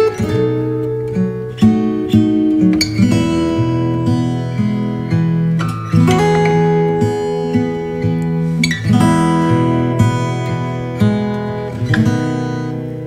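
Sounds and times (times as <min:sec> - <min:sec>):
acoustic guitar tune: 0:00.0 - 0:13.0.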